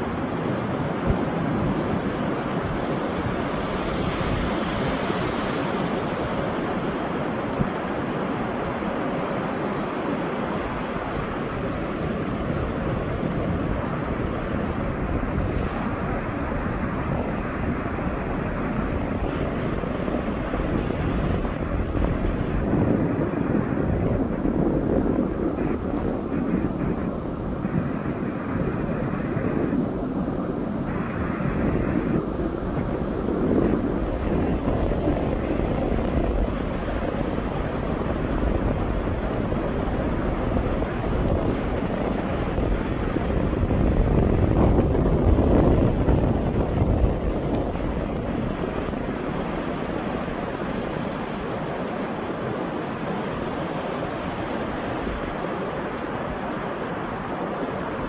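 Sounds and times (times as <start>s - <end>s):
sea waves washing on beach: 0.0s - 58.0s
wind rumbling on microphone: 0.0s - 58.0s.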